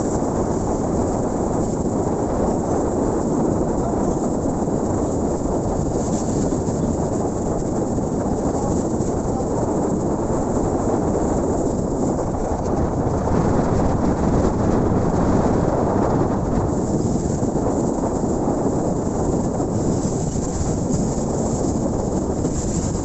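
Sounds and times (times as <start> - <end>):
wind rush on microphone: 0.0 - 23.0.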